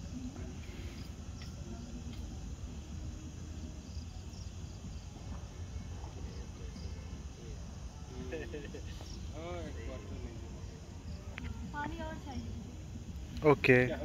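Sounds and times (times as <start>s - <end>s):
faint cricket chirps: 0.0s - 14.0s.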